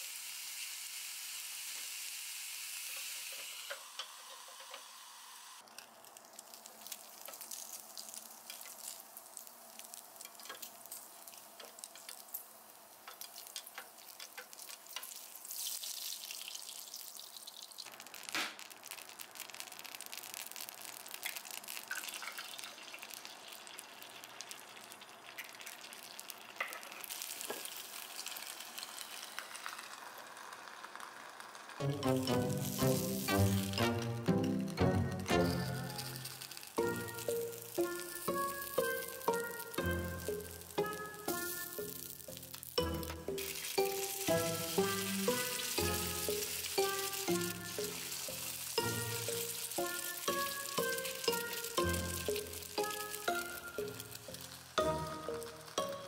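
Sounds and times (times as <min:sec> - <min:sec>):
bacon sizzling in a pan: 0:00.0 - 0:56.0.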